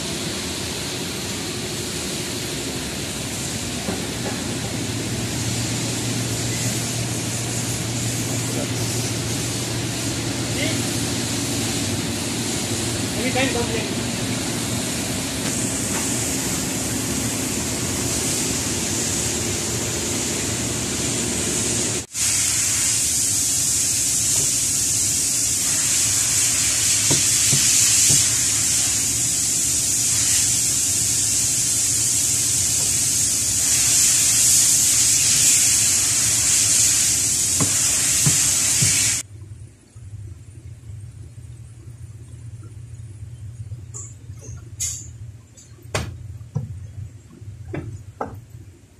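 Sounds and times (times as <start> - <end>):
steady loud hiss: 0.0 - 39.9.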